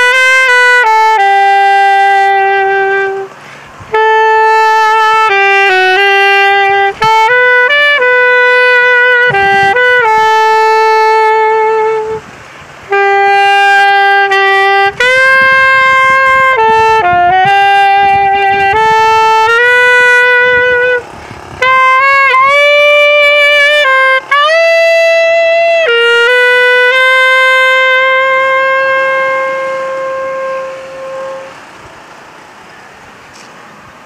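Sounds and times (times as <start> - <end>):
saxophone slow melody: 0.0 - 32.8.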